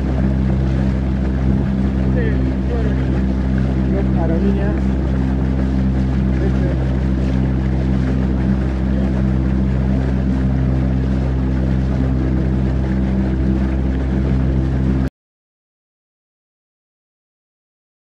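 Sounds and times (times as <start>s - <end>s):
boat motor humming: 0.0s - 15.1s
water rushing: 0.0s - 15.1s.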